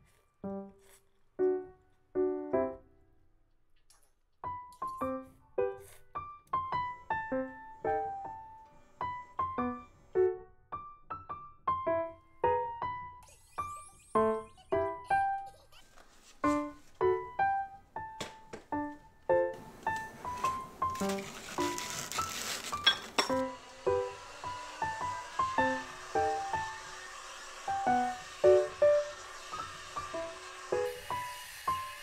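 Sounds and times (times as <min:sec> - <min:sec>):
gentle piano music: 0:00.0 - 0:03.2, 0:04.4 - 0:15.8, 0:16.4 - 0:32.0.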